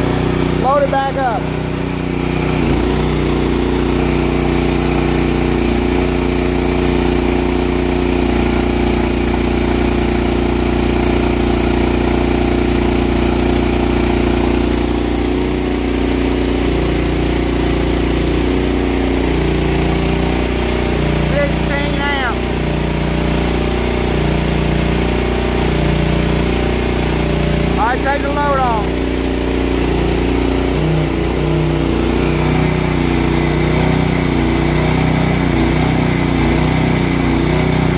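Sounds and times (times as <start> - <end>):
generator engine running: 0.0 - 37.9.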